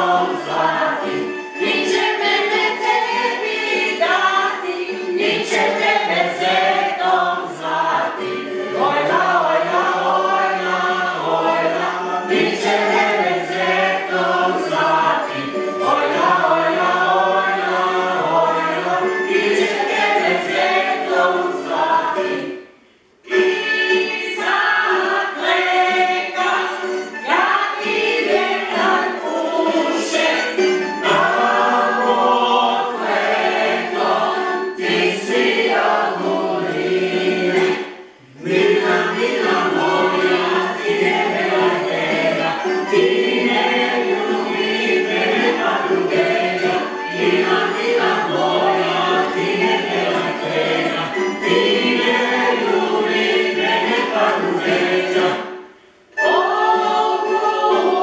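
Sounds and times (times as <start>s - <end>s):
group singing in chorus: 0.0s - 58.0s.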